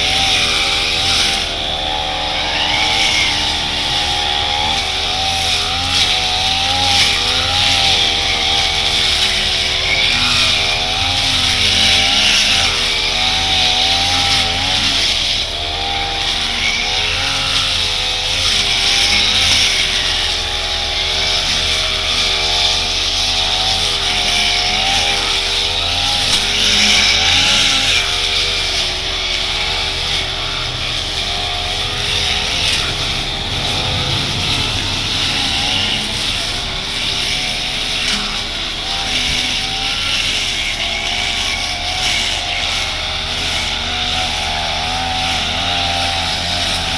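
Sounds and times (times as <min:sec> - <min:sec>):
brush cutter engine cutting grass: 0:00.0 - 0:46.9.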